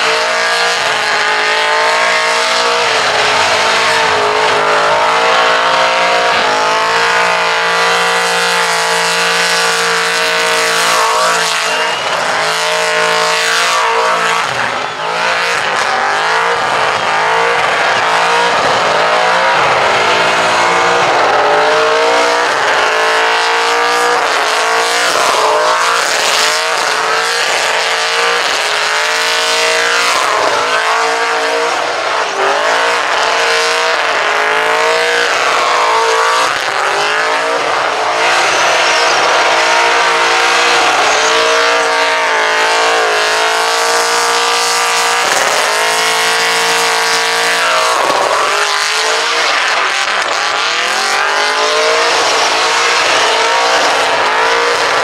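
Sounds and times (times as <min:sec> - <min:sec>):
car engine revving high: 0:00.0 - 0:55.0.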